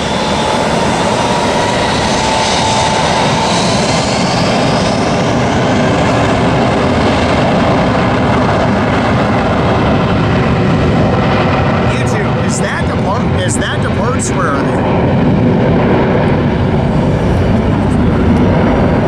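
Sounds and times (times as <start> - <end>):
jet engines roaring past: 0.0 - 19.0.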